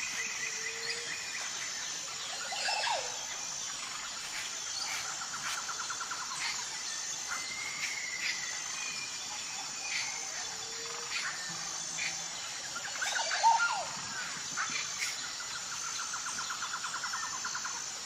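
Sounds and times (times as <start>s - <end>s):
bird calls and chirps: 0.0s - 17.8s
insect drone: 0.0s - 18.0s.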